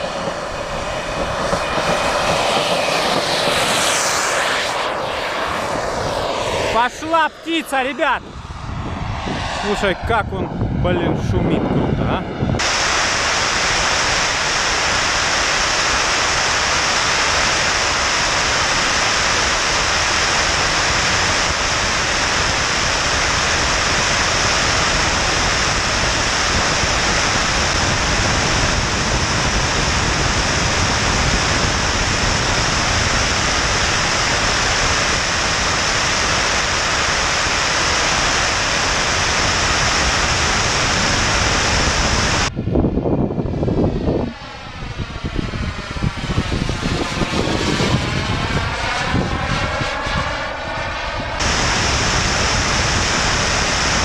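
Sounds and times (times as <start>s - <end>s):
jet engine rushing hiss: 0.0s - 54.0s
wind on microphone: 0.0s - 54.0s.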